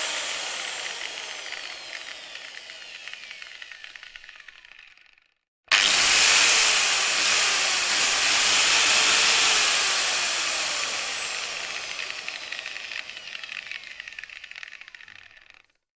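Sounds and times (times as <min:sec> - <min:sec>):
angle grinder grinding metal: 0:00.0 - 0:04.8, 0:05.7 - 0:15.6.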